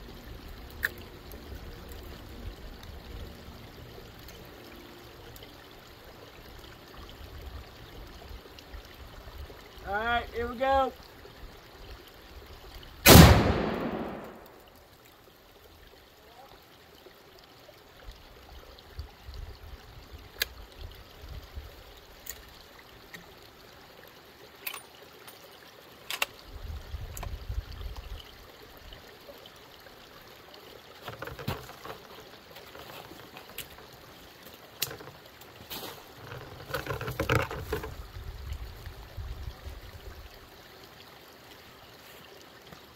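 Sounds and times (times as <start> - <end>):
water trickling: 0.0 - 42.9.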